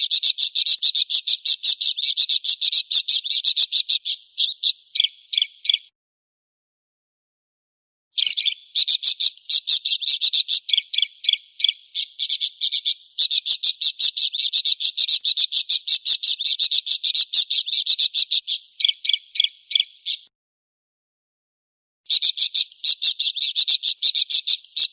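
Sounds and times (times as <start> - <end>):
bird buzzy chirps: 0.0 - 5.9, 8.2 - 20.3, 22.1 - 24.9.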